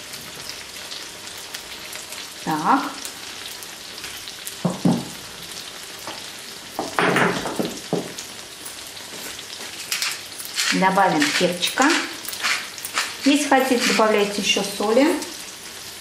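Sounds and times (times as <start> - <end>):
batter sizzling in oil: 0.0 - 16.0.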